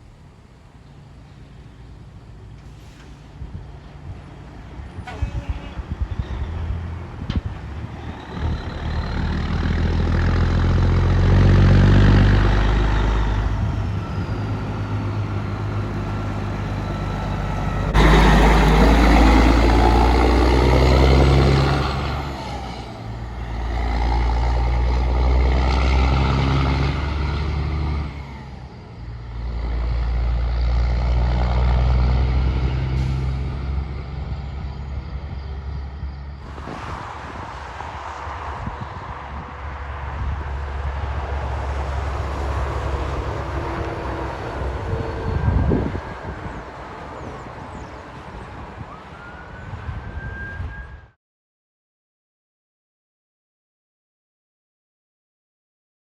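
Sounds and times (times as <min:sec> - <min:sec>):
heavy trucks driving past: 0:00.0 - 0:51.2.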